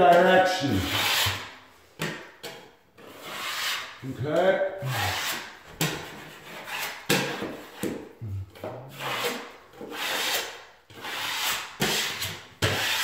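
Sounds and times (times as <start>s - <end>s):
tool scraping drywall compound: 0.0s - 13.0s.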